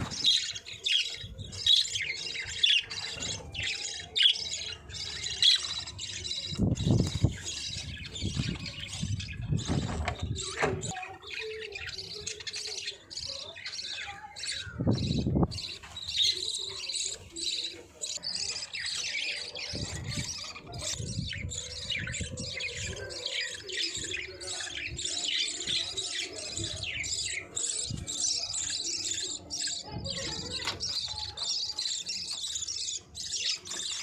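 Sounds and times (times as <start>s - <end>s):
budgerigars chirping and warbling: 0.0s - 34.0s.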